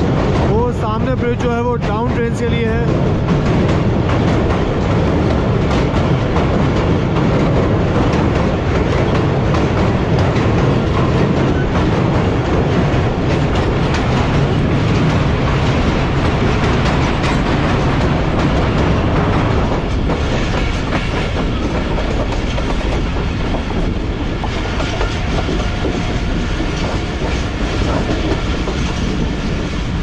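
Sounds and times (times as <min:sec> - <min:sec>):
train wheels clacking on rails: 0:00.0 - 0:30.0.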